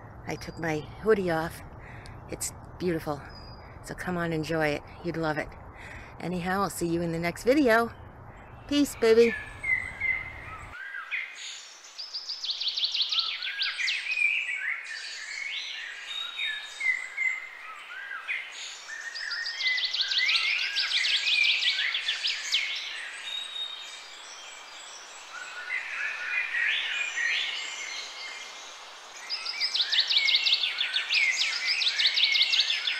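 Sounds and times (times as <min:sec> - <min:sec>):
faint steady hiss: 0:00.0 - 0:32.9
songbirds singing and trilling: 0:00.0 - 0:32.9.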